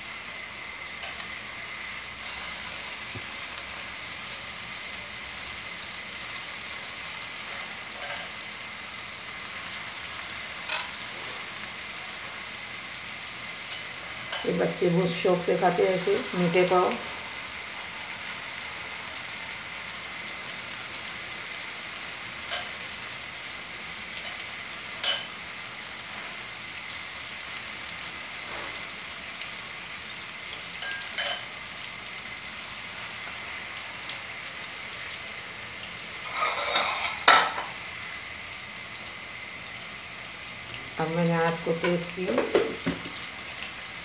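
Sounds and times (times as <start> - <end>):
bread sizzling in a frying pan: 0.0 - 44.0.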